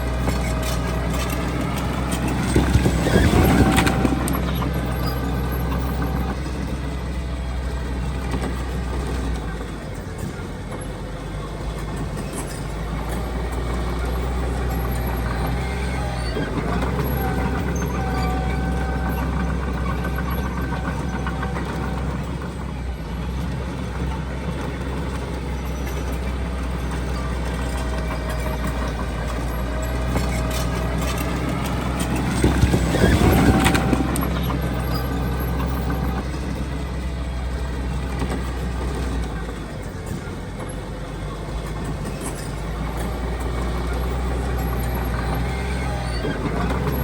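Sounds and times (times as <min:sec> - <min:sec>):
heavy diesel machinery running: 0:00.0 - 0:47.0.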